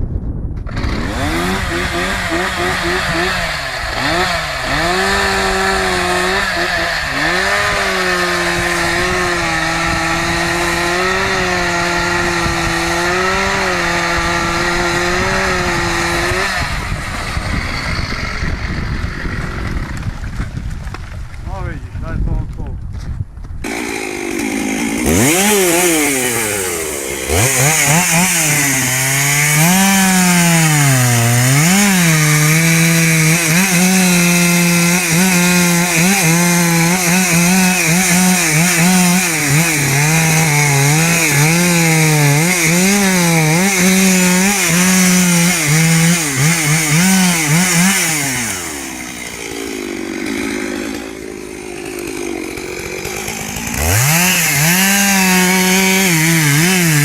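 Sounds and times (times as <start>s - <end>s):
chainsaw cutting wood: 0.6s - 21.4s, 23.6s - 57.0s.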